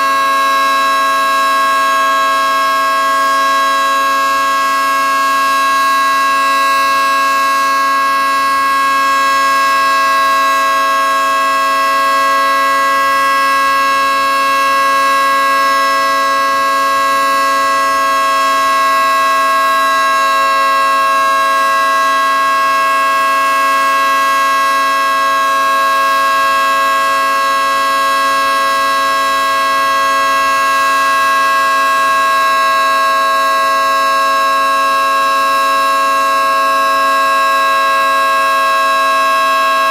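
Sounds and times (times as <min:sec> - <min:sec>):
warning siren steady chord: 0:00.0 - 0:39.9.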